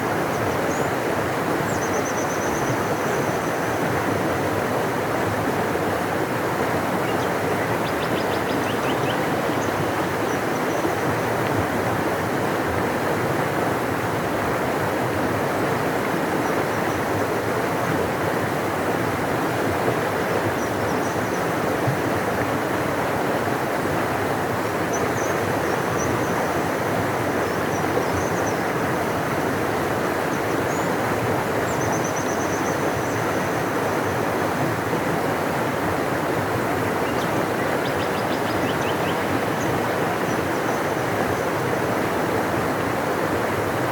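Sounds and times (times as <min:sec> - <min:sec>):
river rushing: 0:02.8 - 0:43.9.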